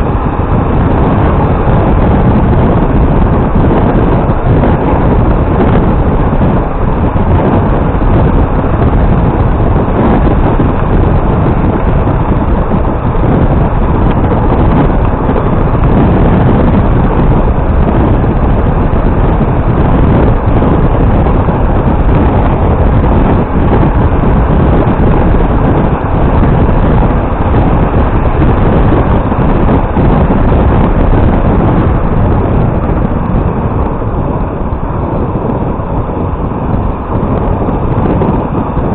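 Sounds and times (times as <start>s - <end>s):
motorcycle engine: 0.0s - 38.9s
wind rushing on microphone: 0.0s - 38.9s.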